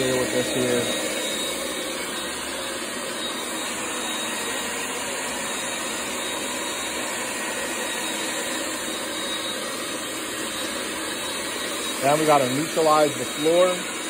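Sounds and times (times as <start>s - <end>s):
shop vacuum running: 0.0s - 14.0s.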